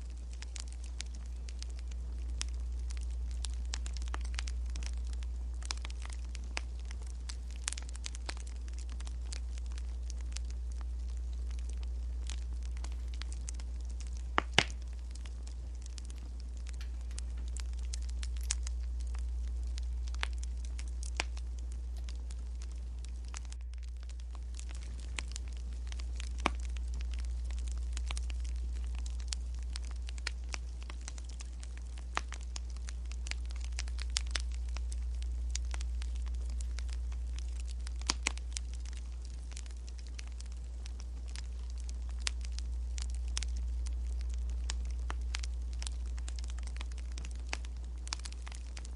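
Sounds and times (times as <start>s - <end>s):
low steady rumble: 0.0s - 48.9s
wood fire popping and snapping: 0.0s - 48.9s.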